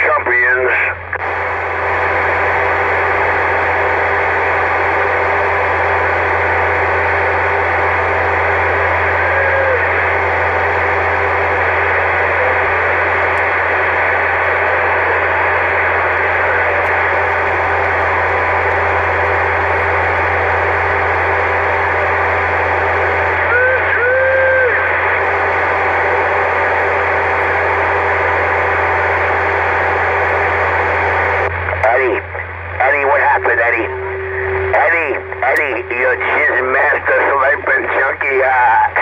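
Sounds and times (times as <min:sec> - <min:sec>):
radio speaker hiss: 0:00.0 - 0:39.0
low hum: 0:00.9 - 0:39.0.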